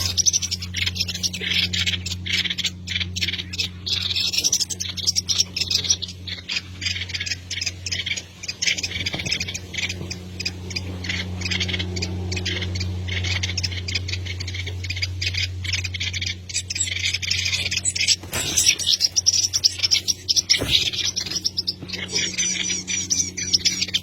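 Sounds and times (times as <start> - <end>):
low electrical hum: 0.0 - 24.0
small birds chirping: 0.0 - 24.0.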